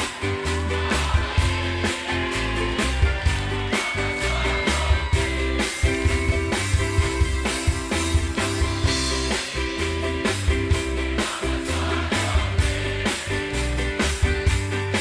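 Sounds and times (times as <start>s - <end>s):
accordion: 0.0s - 15.0s
drum kit: 0.0s - 15.0s
keyboard: 0.0s - 15.0s.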